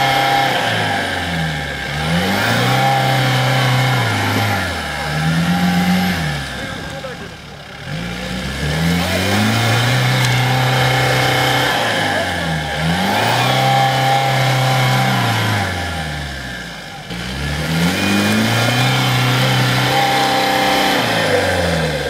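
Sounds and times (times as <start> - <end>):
engine revving hard: 0.0 - 22.0.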